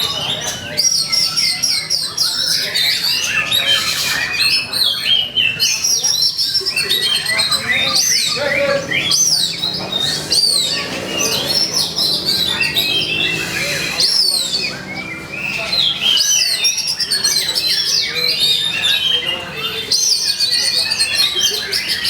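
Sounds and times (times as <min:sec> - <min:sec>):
magpie-robin singing: 0:00.0 - 0:22.0.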